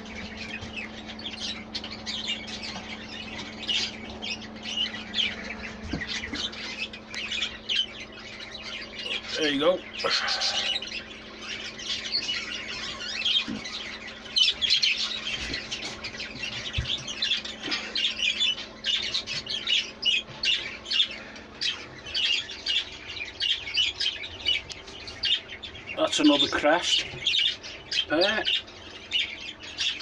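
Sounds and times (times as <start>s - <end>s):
budgerigars chattering and squawking: 0.0s - 30.0s.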